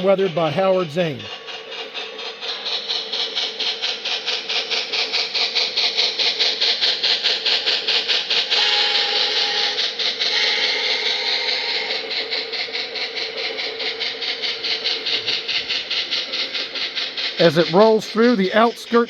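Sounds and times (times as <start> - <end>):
steady steam hiss: 0.0 - 19.0
steam locomotive exhaust chuffs: 0.0 - 19.0.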